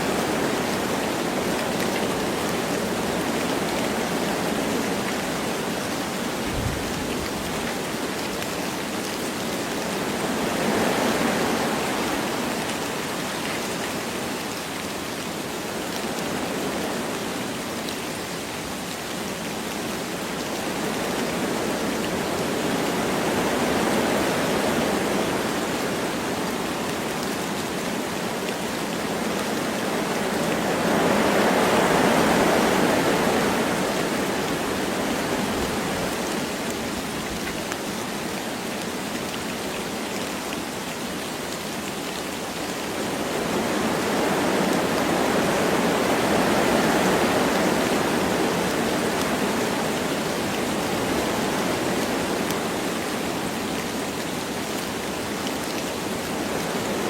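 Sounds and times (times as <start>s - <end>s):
light rain falling: 0.0s - 57.0s
wind through trees: 0.0s - 57.0s.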